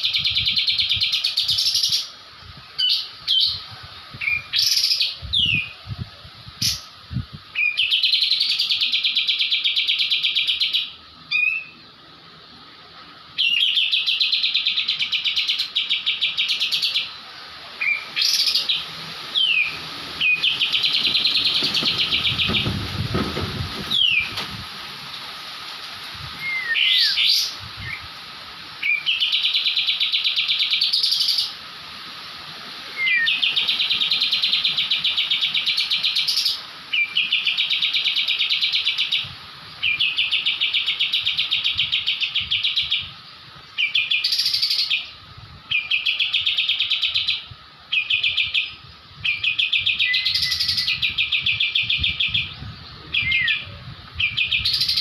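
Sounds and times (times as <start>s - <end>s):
songbird buzzy trills: 0.0s - 55.0s.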